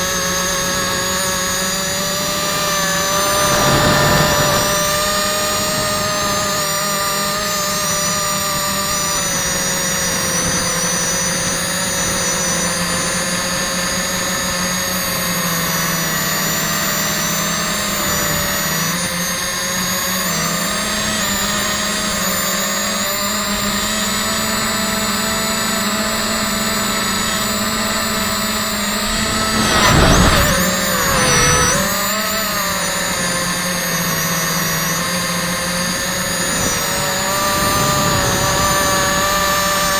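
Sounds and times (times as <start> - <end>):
quadcopter propellers whining: 0.0 - 39.9.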